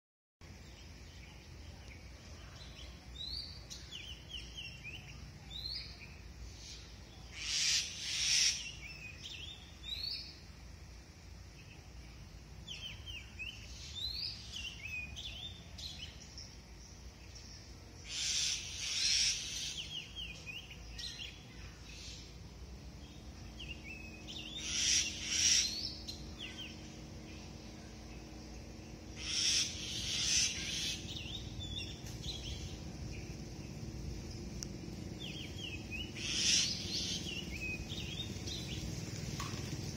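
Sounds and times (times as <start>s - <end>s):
low steady hum: 0.4s - 39.9s
songbirds chirping: 0.4s - 39.9s.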